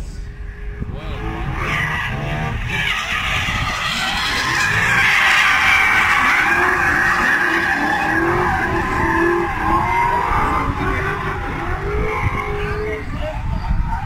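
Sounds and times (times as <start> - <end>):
car engines revving: 0.0 - 14.0
tyres screeching: 1.0 - 13.8.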